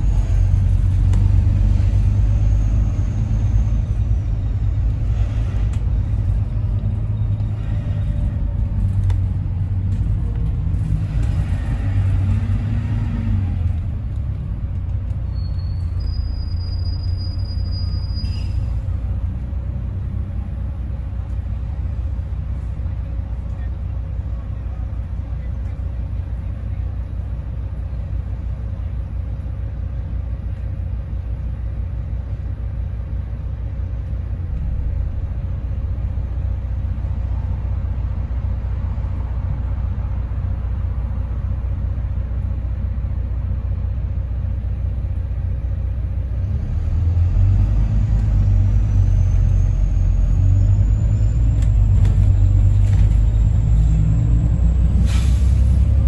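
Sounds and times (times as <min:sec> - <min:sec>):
bus engine rumbling: 0:00.0 - 0:56.0.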